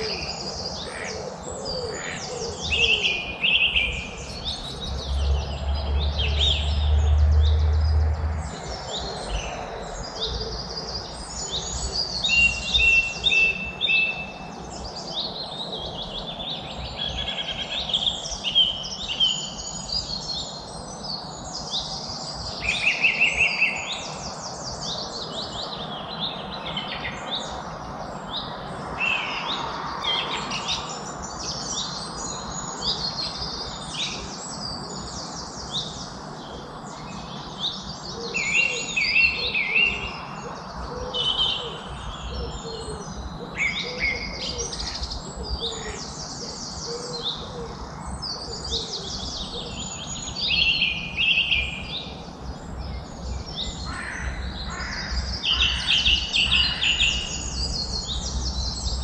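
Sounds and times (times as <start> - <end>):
birds singing and chirping: 0.0 - 59.0
steady background hiss: 8.5 - 59.0.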